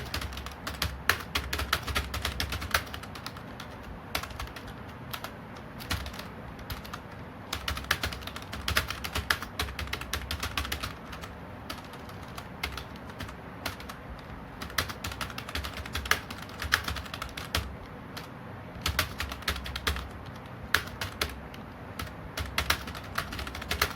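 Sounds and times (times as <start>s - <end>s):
typing on computer keyboard: 0.0s - 23.9s.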